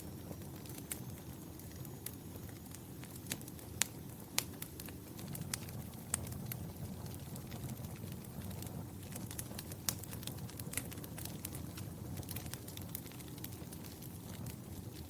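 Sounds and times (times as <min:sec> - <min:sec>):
fire crackling and popping: 0:00.0 - 0:15.0
fire rumbling in a fireplace: 0:00.0 - 0:15.0.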